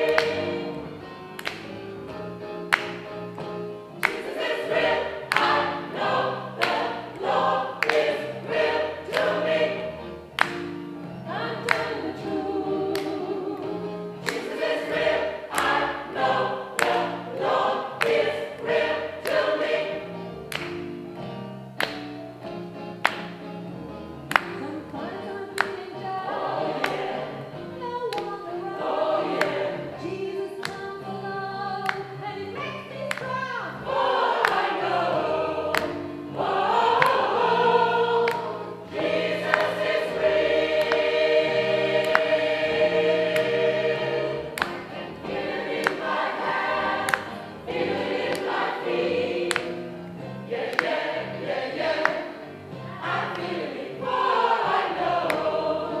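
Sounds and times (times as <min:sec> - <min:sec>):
gospel choir singing: 0:00.0 - 0:20.9, 0:24.4 - 0:56.0.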